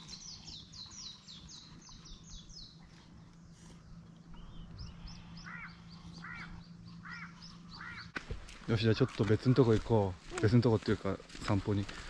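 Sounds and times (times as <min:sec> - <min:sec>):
faint low hum: 0:00.0 - 0:10.5
wild birds calling: 0:00.0 - 0:12.0.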